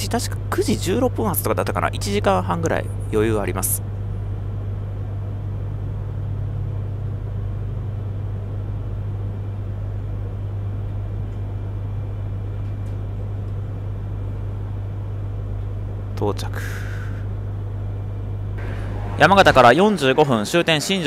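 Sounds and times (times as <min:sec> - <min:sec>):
train interior hum and rumble: 0:00.0 - 0:21.0.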